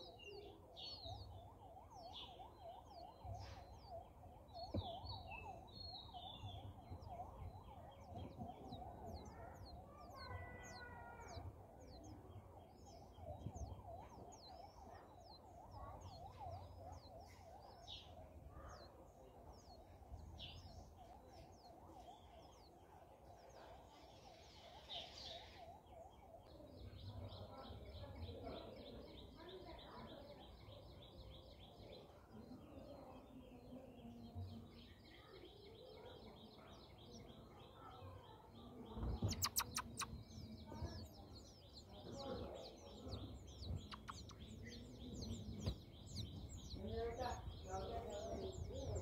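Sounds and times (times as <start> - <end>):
high bird chirps: 0.0 - 49.0.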